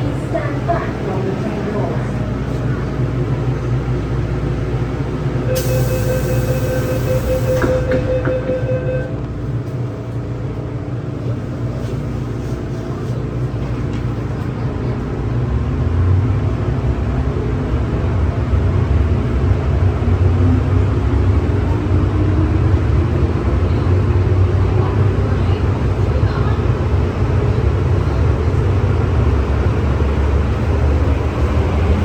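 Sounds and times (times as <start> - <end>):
metro train rumble: 0.0 - 32.0.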